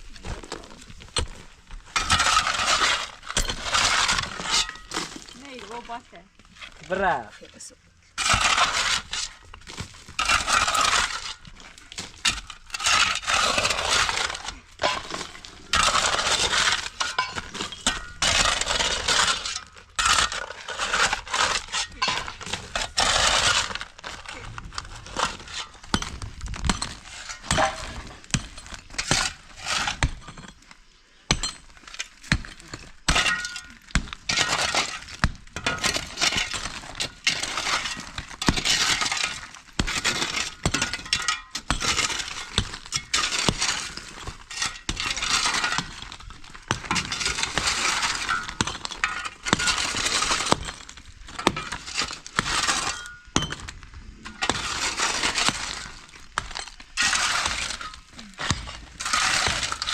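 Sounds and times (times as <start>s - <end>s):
debris breaking and crashing: 0.0s - 7.2s, 8.2s - 59.9s.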